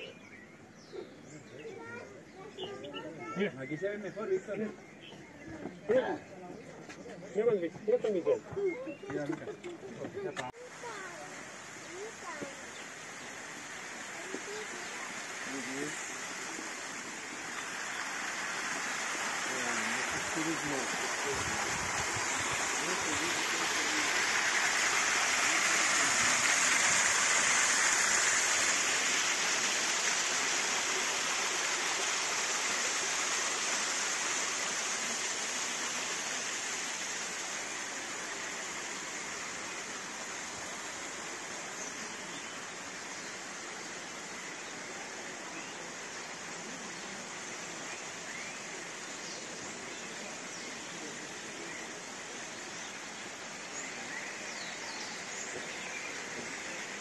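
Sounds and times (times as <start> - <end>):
waterfall splashing over rocks: 8.8 - 57.0.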